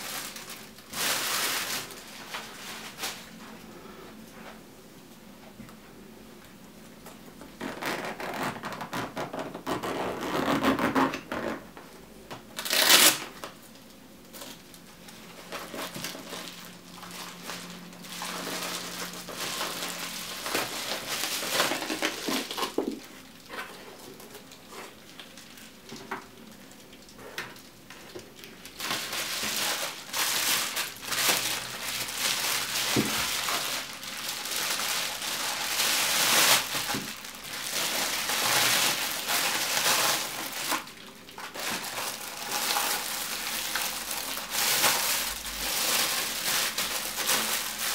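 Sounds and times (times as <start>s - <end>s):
bubble wrap crinkling: 0.0s - 3.7s, 7.4s - 11.7s, 12.3s - 47.9s.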